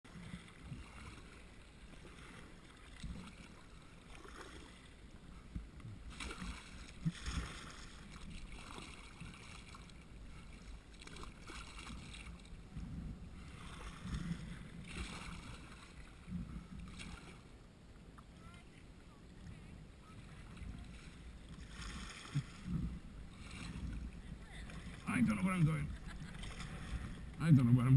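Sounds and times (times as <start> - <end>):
paddle splashing in water: 0.1 - 27.8.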